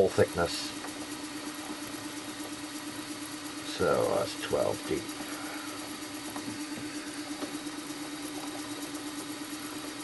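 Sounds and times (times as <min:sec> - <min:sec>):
milling machine humming: 0:00.0 - 0:10.0.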